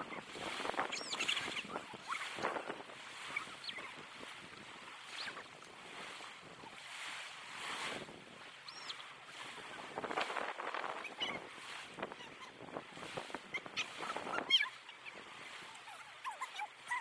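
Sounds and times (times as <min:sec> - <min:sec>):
small waves washing up beach: 0:00.0 - 0:17.0.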